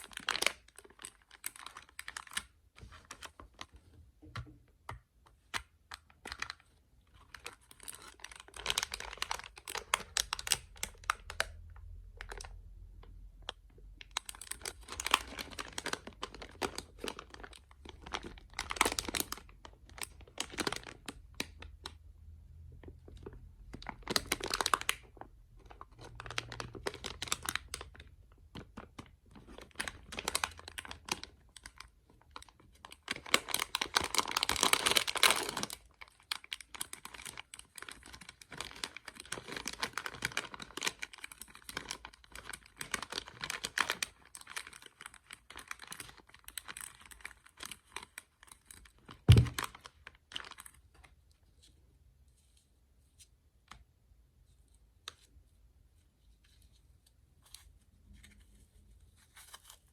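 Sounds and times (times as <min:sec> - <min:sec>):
packaging crinkling and tearing: 0:00.0 - 0:03.8, 0:05.6 - 0:22.0, 0:23.1 - 0:51.0, 0:57.5 - 0:59.9.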